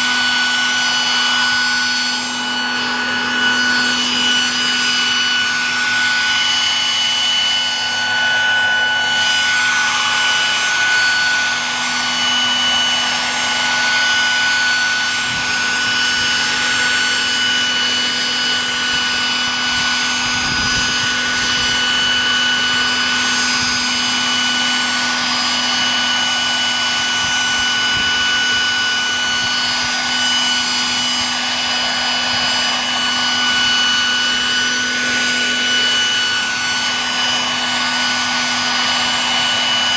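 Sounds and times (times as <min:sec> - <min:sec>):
model helicopter whirring: 0:00.0 - 0:39.9.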